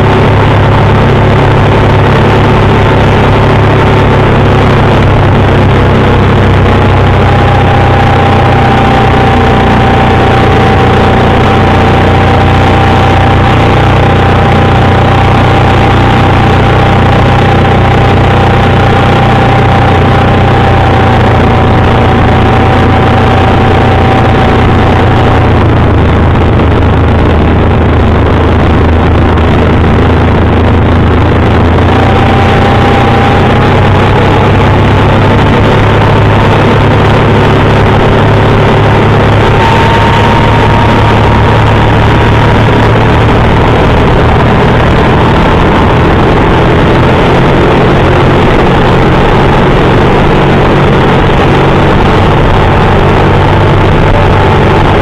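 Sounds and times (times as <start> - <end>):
faint whine: 0.0 - 55.0
outboard motor running: 0.0 - 55.0.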